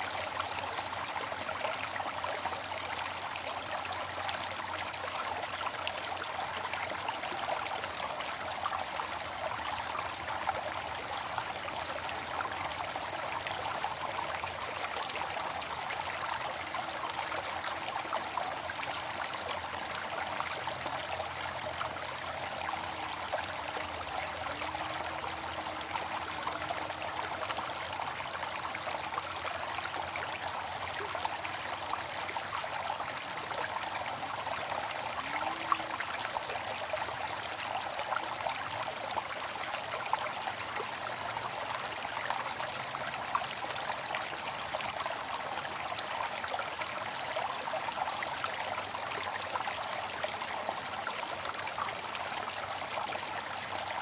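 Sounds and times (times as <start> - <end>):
water fountain splashing: 0.0 - 54.0.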